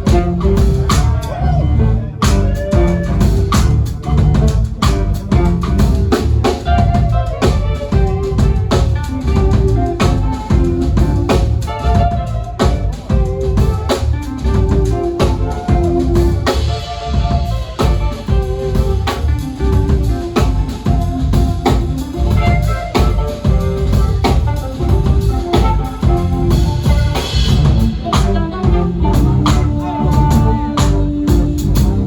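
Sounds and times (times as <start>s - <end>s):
drum kit groove: 0.0s - 32.0s
jazz band playing: 0.0s - 32.0s.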